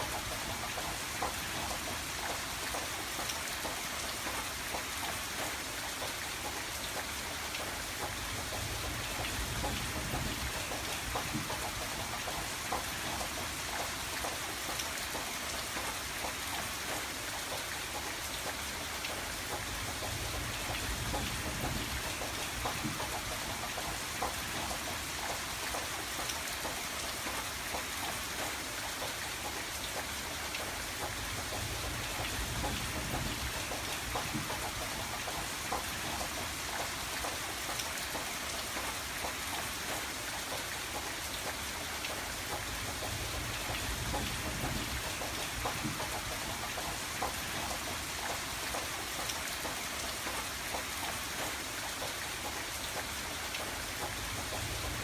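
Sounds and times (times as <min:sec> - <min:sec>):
rain on a window pane: 0:00.0 - 0:55.0.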